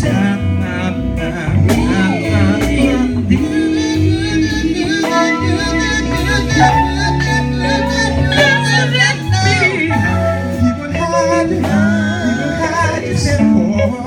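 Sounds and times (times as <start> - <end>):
gospel singing: 0.0 - 14.0
organ-like chords and bass: 0.0 - 14.0.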